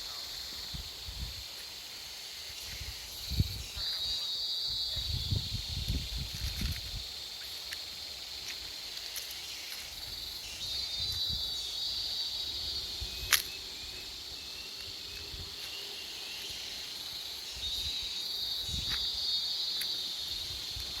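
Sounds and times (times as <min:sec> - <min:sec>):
forest insects trilling: 0:00.0 - 0:21.0.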